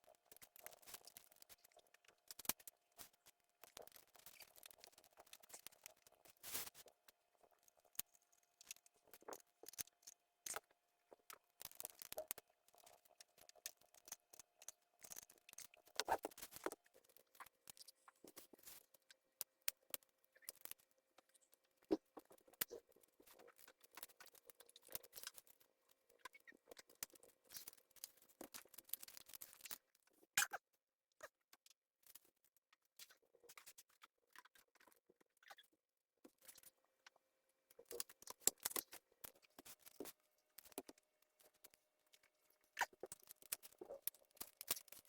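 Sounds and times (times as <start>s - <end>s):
small tools clicking and scratching: 0.0s - 45.0s.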